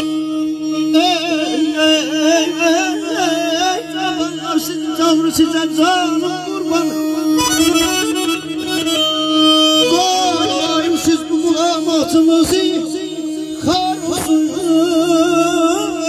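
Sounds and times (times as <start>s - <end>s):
man singing wordless trills: 0.0s - 16.0s.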